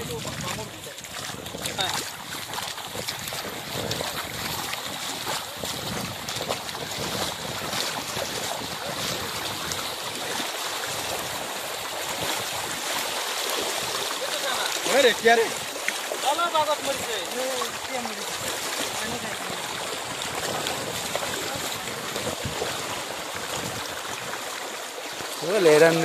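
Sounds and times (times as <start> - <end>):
feet wading through water: 0.0 - 26.0
floodwater flowing: 0.0 - 26.0.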